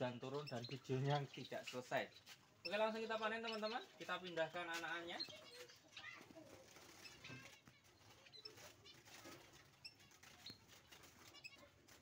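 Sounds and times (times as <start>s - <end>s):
birds fluttering: 0.0s - 12.0s.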